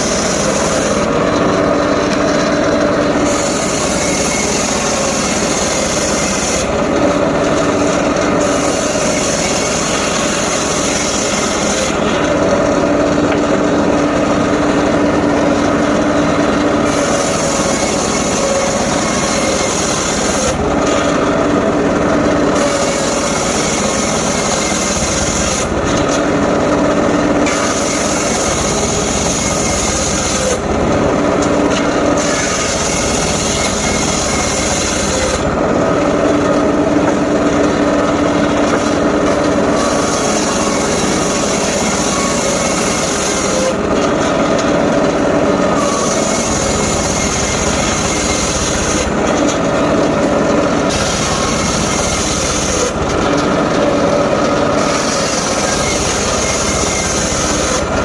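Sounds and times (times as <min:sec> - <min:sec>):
sawmill running: 0:00.0 - 0:58.0.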